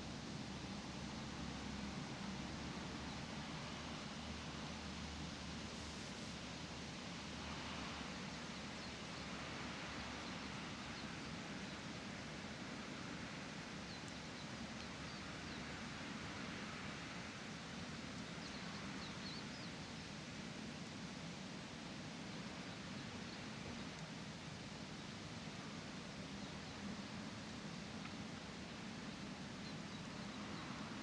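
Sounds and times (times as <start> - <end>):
low hiss and hum: 0.0 - 31.0.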